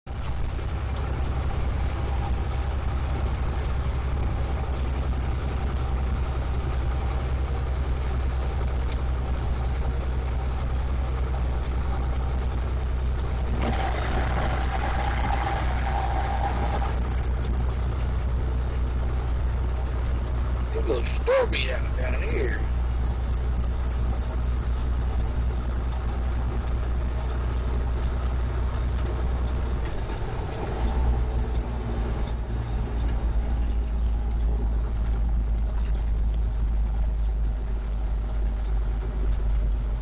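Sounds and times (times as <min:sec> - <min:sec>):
truck engine droning: 0:00.1 - 0:40.0
tyre and road noise: 0:00.1 - 0:40.0.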